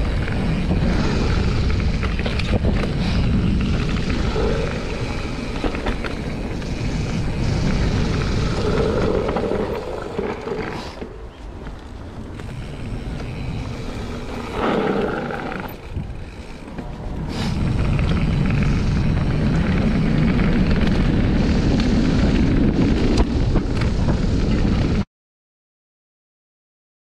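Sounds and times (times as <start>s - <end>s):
bike tyres rolling on dirt: 0.0s - 25.0s
wind buffeting microphone: 0.0s - 25.0s.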